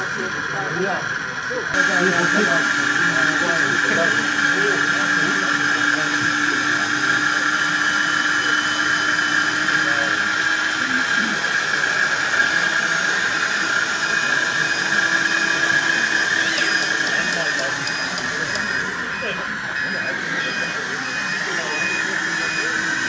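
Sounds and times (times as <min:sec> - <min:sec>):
hydraulic pump hissing whine: 0:00.0 - 0:23.0.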